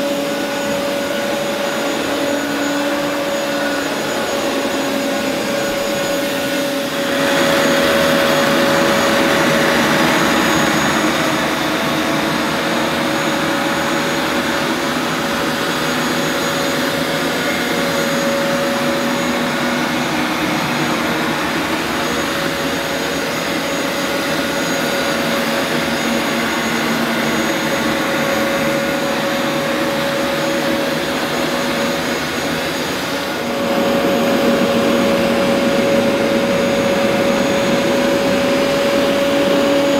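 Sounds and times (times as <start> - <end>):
carpet washer motor humming: 0.0 - 39.9.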